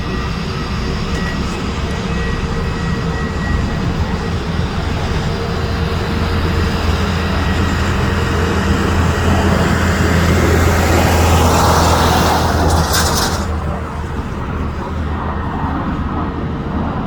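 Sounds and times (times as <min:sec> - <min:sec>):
airplane landing roar: 0:00.0 - 0:17.0.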